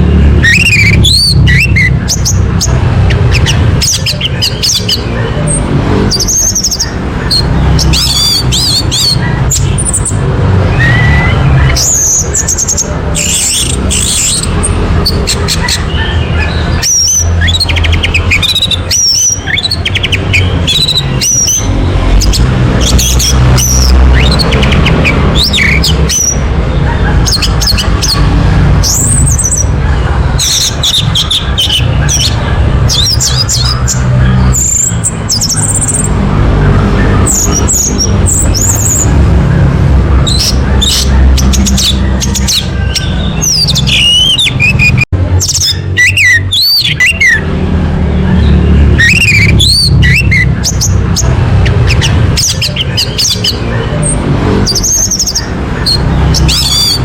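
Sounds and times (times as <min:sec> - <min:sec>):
thrush singing: 0:00.0 - 0:57.0.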